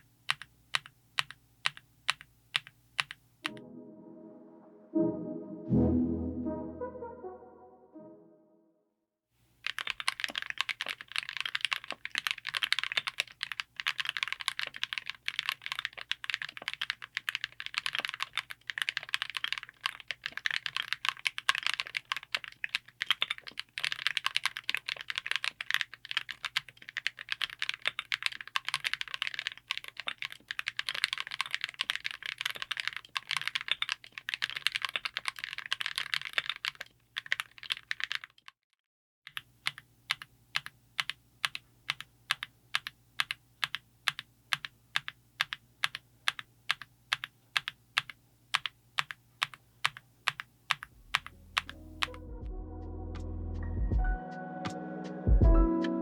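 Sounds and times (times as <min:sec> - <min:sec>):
mechanical keyboard typing: 0:00.0 - 0:03.2, 0:09.6 - 0:38.5, 0:39.3 - 0:52.2.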